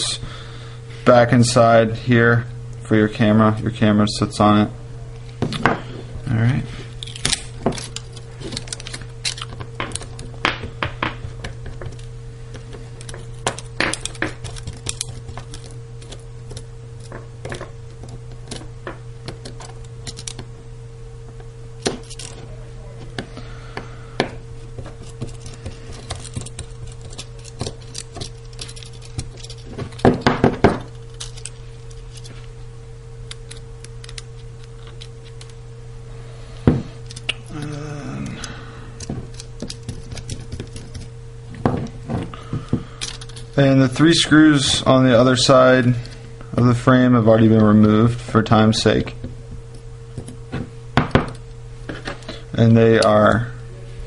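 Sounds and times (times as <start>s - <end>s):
low hum: 0.0s - 54.0s.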